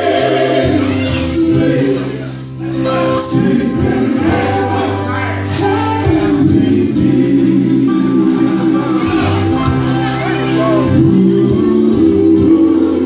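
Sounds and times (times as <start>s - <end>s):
bass notes: 0.0s - 13.0s
live band music: 0.0s - 13.0s
person singing: 0.0s - 13.0s.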